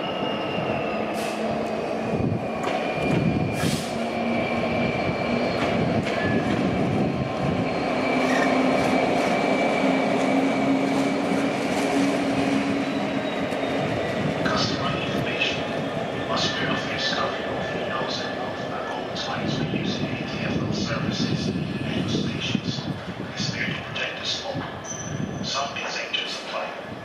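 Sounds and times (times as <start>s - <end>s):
diesel locomotive engine droning: 0.0s - 27.0s.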